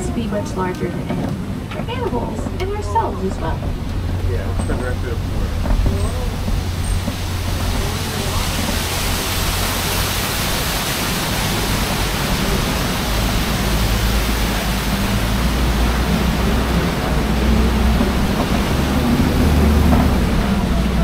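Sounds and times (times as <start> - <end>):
truck engine humming: 0.0 - 21.0
waterfall splashing onto rock: 3.7 - 21.0.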